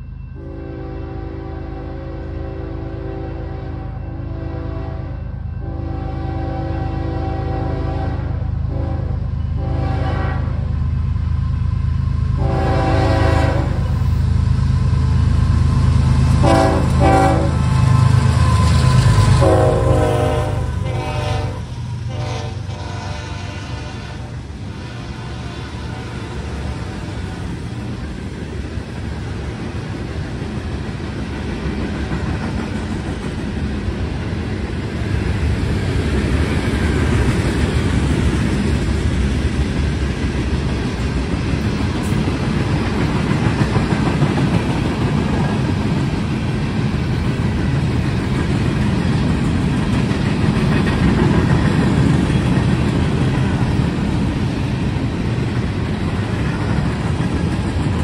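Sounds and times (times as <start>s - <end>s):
train wheels rolling on rails: 7.1s - 58.0s.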